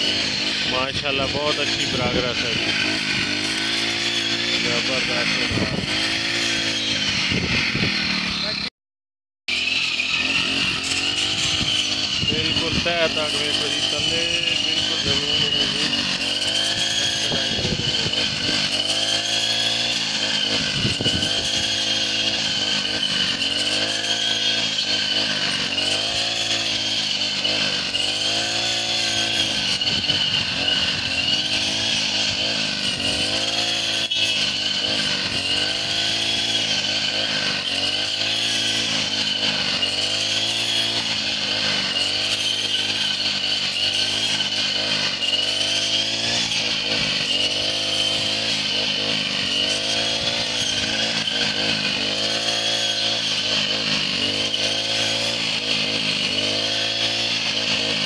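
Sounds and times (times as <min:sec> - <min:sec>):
brush cutter engine running: 0:00.0 - 0:08.7, 0:09.5 - 0:58.0.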